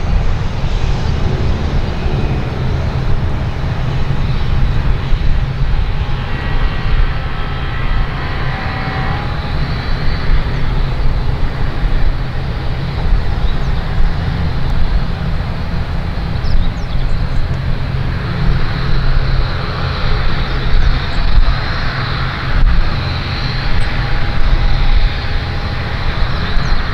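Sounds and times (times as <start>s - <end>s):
jet engines rumbling: 0.0s - 26.9s.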